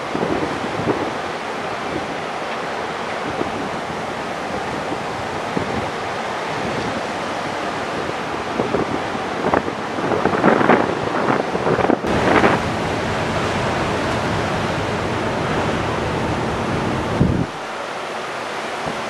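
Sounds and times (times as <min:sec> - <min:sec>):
wind blowing over microphone: 0:00.0 - 0:02.3, 0:03.2 - 0:17.7.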